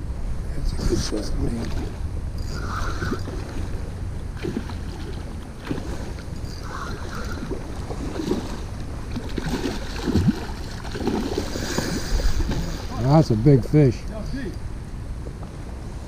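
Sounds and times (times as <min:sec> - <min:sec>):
wind rumbling on microphone: 0:00.0 - 0:16.0
creek water running: 0:00.6 - 0:14.1.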